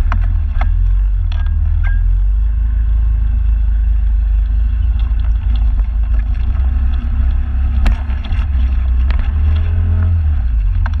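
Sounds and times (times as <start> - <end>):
motorbike engine rumble: 0.0 - 11.0.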